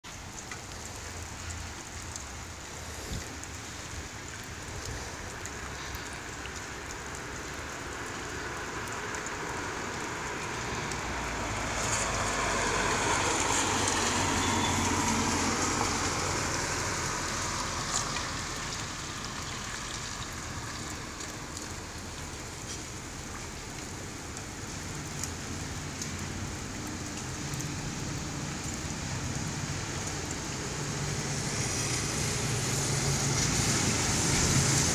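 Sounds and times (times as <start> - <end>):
car tyres hissing on wet road: 0.1 - 34.9
steady wet-weather hiss: 0.1 - 34.9.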